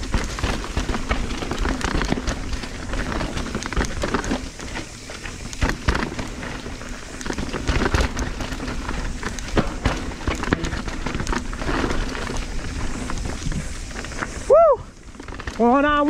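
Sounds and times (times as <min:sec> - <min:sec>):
bike knocks and rattles: 0:00.0 - 0:16.0
tyres crunching and skidding on dirt: 0:00.0 - 0:16.0.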